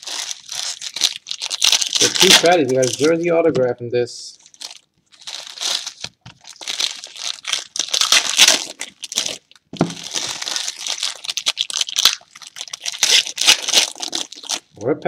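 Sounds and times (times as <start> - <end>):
foil wrapper crinkling: 0.0 - 3.4, 4.4 - 14.8.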